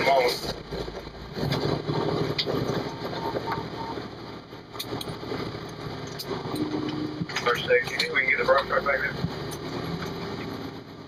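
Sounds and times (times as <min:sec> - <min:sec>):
fire engine rumble from cab: 0:00.0 - 0:11.0.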